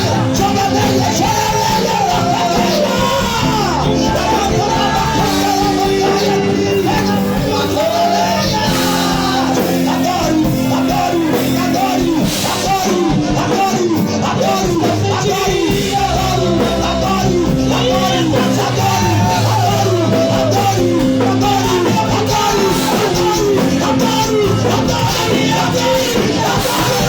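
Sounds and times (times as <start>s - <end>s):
instrumental chords and bass: 0.0s - 27.0s
person singing gospel music: 0.0s - 27.0s.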